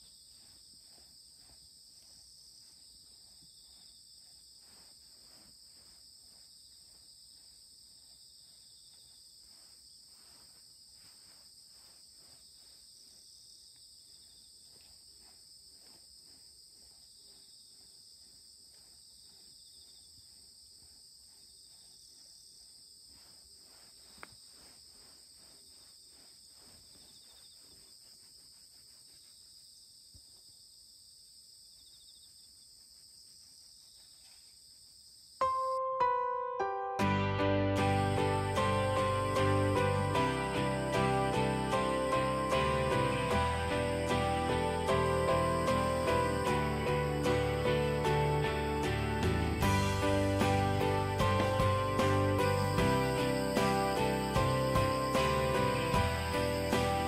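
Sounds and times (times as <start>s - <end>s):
insects chorus: 0.0s - 35.5s, 37.8s - 57.0s.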